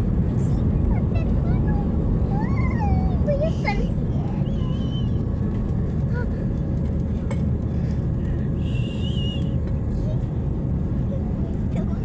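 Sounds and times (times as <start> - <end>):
jet cabin engine rumble: 0.0 - 12.0.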